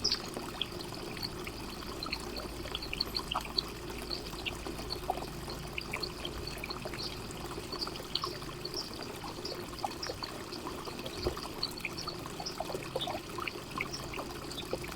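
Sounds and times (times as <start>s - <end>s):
fountain water trickling and splashing: 0.0s - 14.9s.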